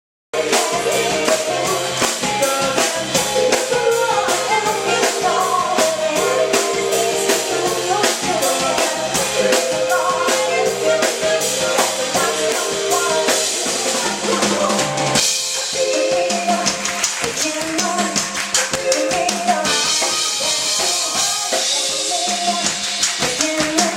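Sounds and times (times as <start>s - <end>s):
drum kit beat: 0.3s - 23.9s
live band playing pop: 0.4s - 23.9s.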